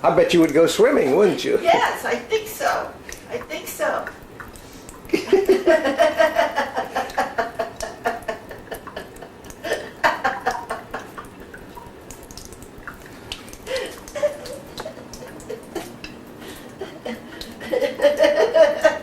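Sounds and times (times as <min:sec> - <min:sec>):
water trickling from a tap: 0:00.0 - 0:19.0.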